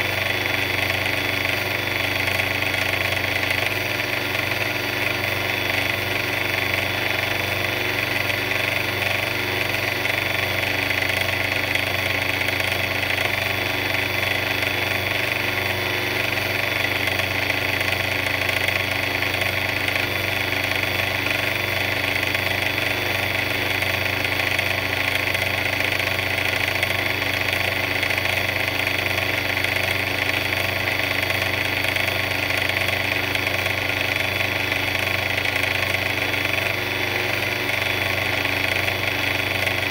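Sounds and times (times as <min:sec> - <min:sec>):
mixer mechanical drone: 0:00.0 - 0:39.9.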